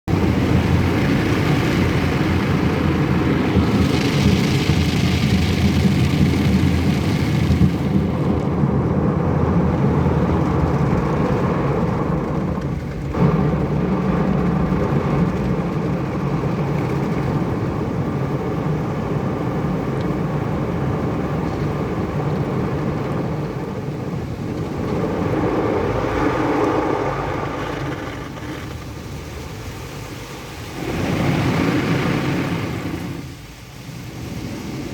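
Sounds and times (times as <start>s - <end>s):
car wash water spray: 0.1s - 34.9s.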